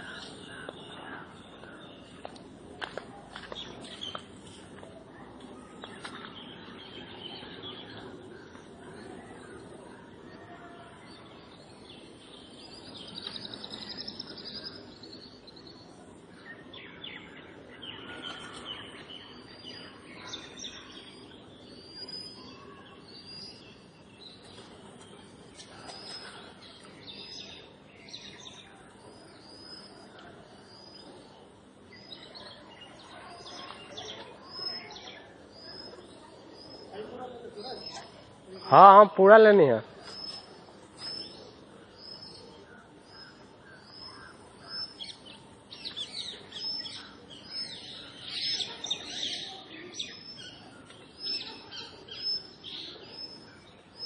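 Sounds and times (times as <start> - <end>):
birds chirping: 0.0 - 54.0
faint low background noise: 0.0 - 54.0.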